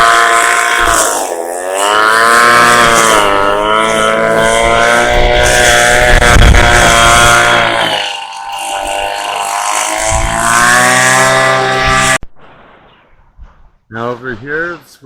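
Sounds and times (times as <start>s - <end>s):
small gasoline engine running: 0.0s - 12.2s.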